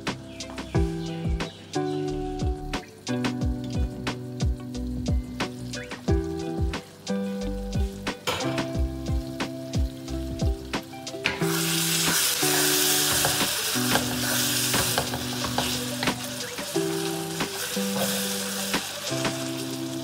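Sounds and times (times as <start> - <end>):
background music: 0.0 - 20.0
food sizzling in hot oil: 0.0 - 20.0
oil popping: 2.5 - 20.0.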